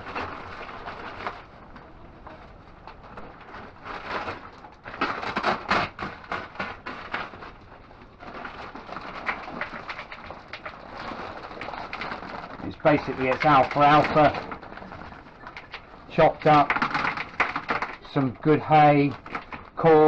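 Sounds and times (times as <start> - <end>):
dry feed rustling and crackling: 0.0 - 20.0.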